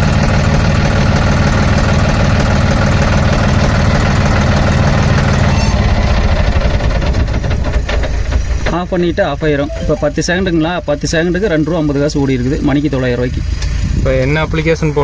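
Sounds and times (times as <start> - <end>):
tractor diesel engine idling: 0.0 - 13.8.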